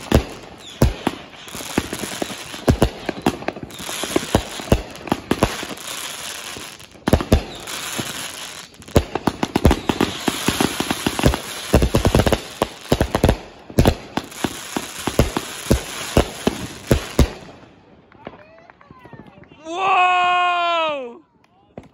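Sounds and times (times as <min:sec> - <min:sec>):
fireworks crackling and popping: 0:00.0 - 0:19.8.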